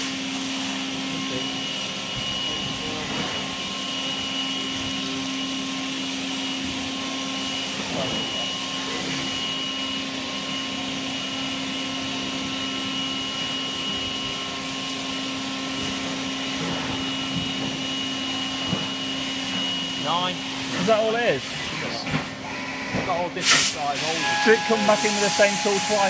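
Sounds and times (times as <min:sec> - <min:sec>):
high machine whine: 0:00.0 - 0:26.0
milling machine hum: 0:00.0 - 0:26.0.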